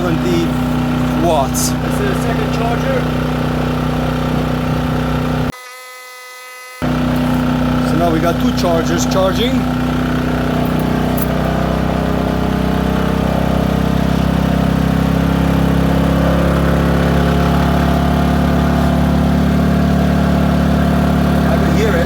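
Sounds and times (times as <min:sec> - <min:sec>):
generator engine running: 0:00.0 - 0:05.5, 0:06.8 - 0:22.0.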